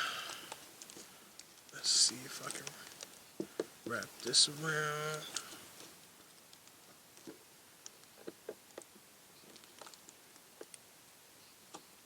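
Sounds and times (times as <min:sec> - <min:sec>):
faint small clicks and taps: 0:00.3 - 0:04.4, 0:05.0 - 0:10.8.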